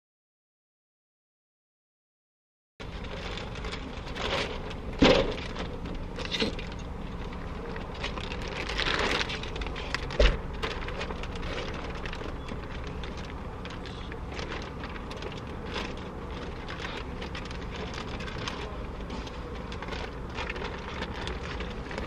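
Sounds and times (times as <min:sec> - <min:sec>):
plastic wrap crinkling: 0:02.8 - 0:22.0.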